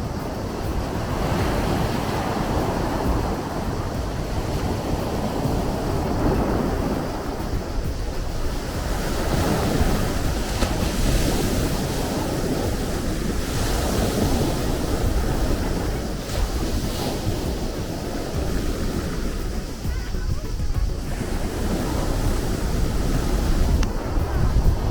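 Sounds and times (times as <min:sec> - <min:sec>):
waves breaking: 0:00.0 - 0:24.9.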